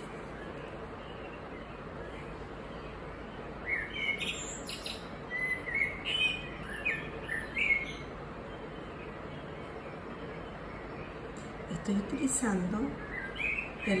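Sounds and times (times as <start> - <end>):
bird chirping: 0.0 - 14.0
low background hum: 0.0 - 14.0.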